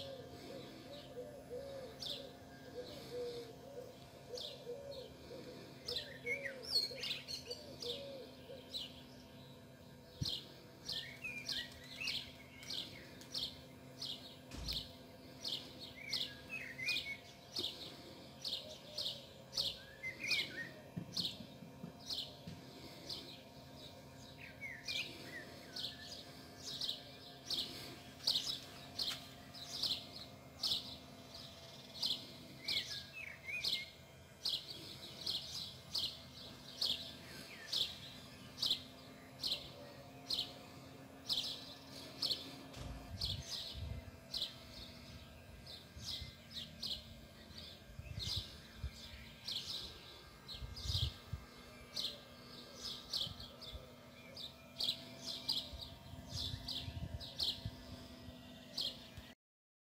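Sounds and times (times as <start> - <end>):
soft bird twittering: 0.0 - 59.3
faint steady hum: 0.0 - 59.4.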